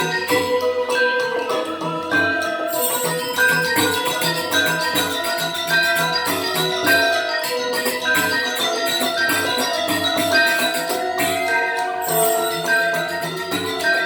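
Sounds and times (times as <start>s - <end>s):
gamelan ensemble playing: 0.0s - 14.0s.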